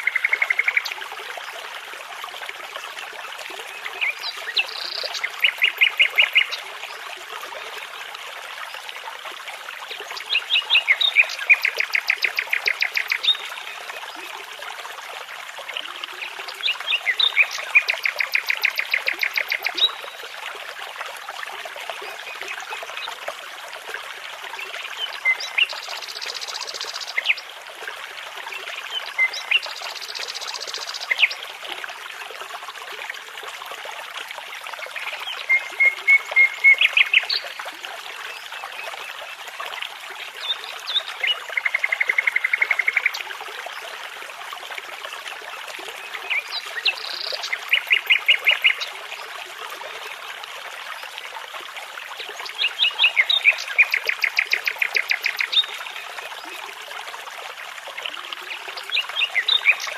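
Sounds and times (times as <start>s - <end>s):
babbling brook: 0.0s - 59.9s.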